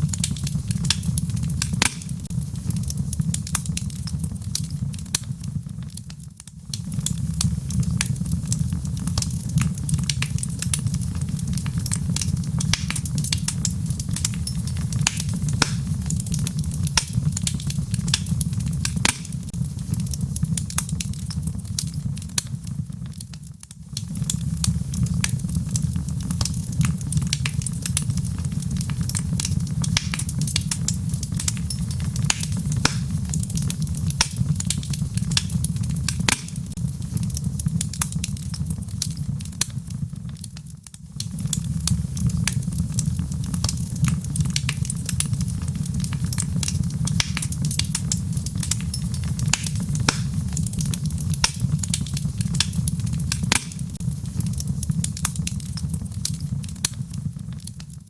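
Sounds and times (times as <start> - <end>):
wood logs burning crackling: 0.0 - 58.0.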